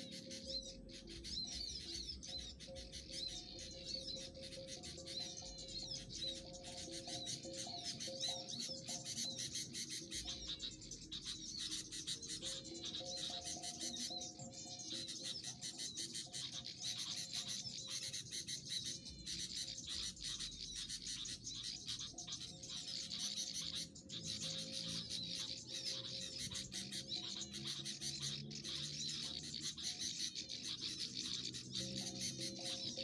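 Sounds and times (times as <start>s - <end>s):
faint background music: 0.0s - 33.0s
small birds chirping: 0.0s - 33.0s.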